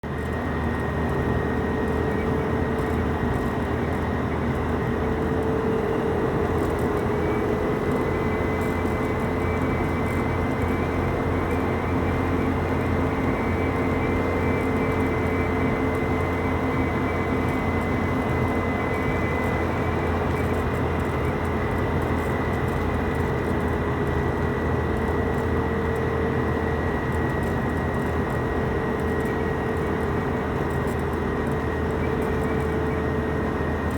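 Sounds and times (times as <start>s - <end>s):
car engine hum: 0.1s - 33.9s.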